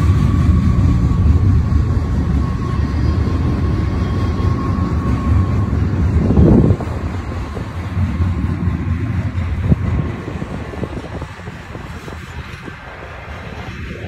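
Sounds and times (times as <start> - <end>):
high whine: 0.0 - 14.0
train wheels rumbling on rail: 0.0 - 14.0.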